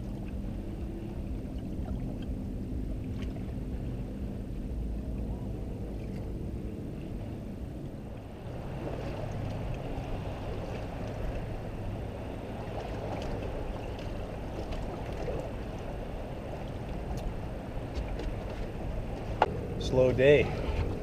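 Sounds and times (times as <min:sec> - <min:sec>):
low hum: 0:00.0 - 0:21.0
water rushing around boat: 0:00.0 - 0:21.0.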